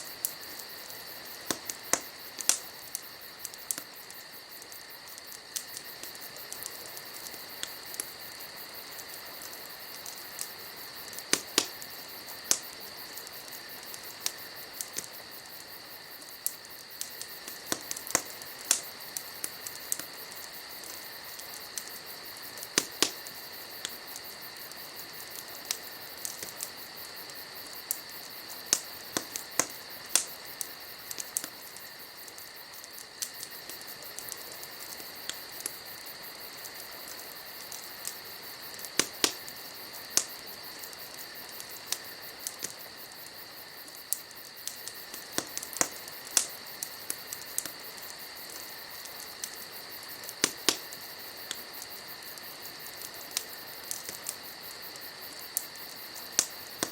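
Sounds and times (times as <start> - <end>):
crickets chirring: 0.0 - 56.9
wood fire crackling and popping: 0.0 - 56.9.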